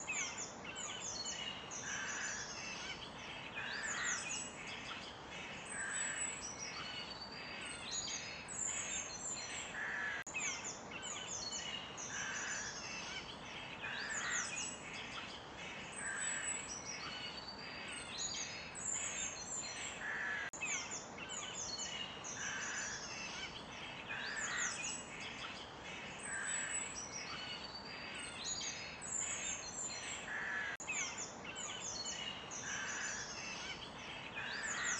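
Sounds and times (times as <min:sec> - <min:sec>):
birds chirping and trilling: 0:00.0 - 0:34.9
lower bird calls: 0:00.0 - 0:34.9.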